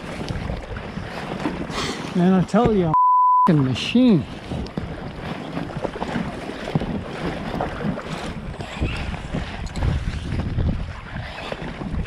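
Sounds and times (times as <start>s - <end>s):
wind buffeting microphone: 0.0s - 2.9s, 3.6s - 12.0s
paddle splashing water: 0.0s - 12.0s.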